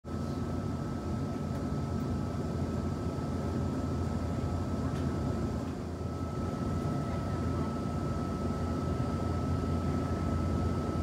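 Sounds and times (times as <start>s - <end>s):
thin constant whine: 0.1s - 11.0s
train car rumble and hum: 0.1s - 11.0s.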